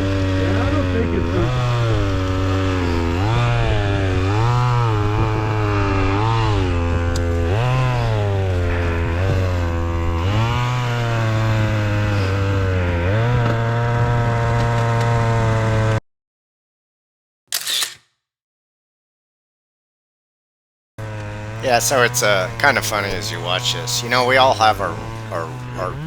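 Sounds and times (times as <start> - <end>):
chainsaw revving: 0.0 - 16.0, 21.0 - 26.0.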